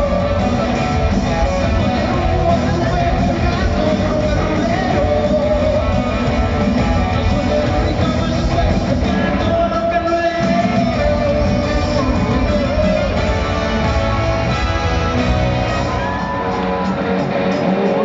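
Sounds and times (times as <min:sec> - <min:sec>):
live pop band with vocals: 0:00.0 - 0:18.0.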